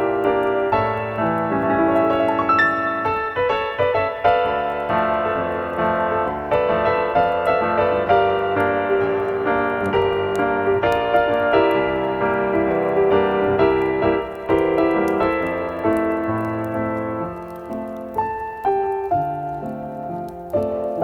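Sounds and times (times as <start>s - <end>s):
slow calm piano music: 0.0s - 21.0s.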